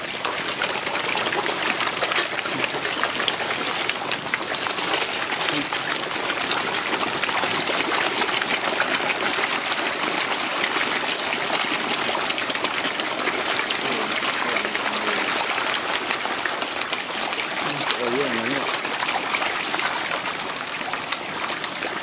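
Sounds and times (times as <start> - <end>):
fish splashing and slurping: 0.0 - 22.0.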